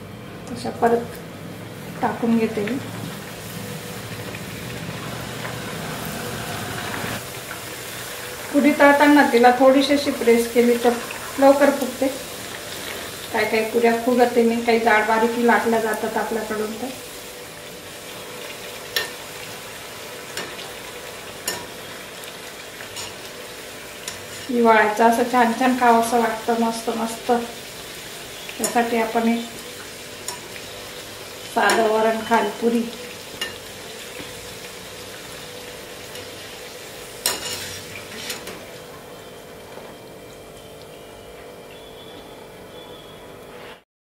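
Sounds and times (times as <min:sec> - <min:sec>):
oil sizzling while deep-frying: 0:00.0 - 0:43.8.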